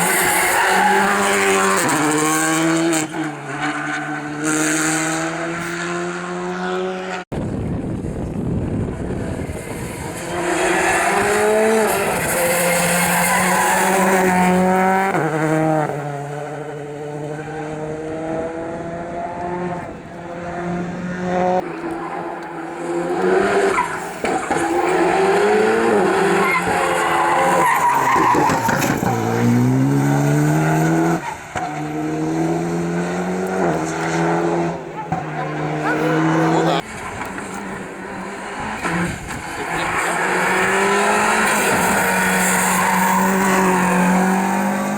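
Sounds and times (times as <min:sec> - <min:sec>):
rally car engines accelerating: 0:00.0 - 0:44.9.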